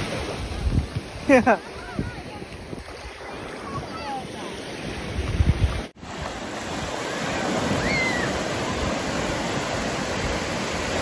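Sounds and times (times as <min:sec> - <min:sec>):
sea surf breaking: 0:00.0 - 0:11.0.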